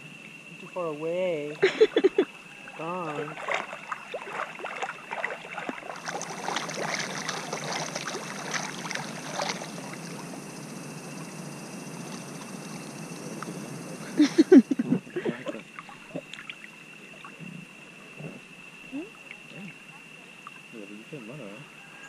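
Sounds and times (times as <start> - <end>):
water gurgling: 0.0 - 20.8
river water splashing: 0.0 - 21.4.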